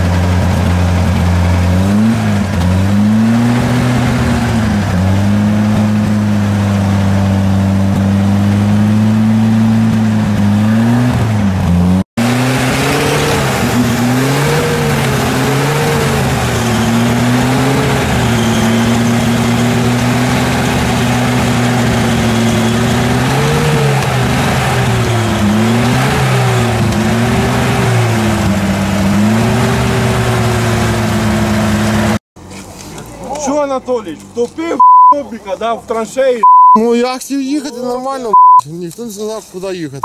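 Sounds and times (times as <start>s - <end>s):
off-road vehicle engine revving: 0.0s - 32.2s.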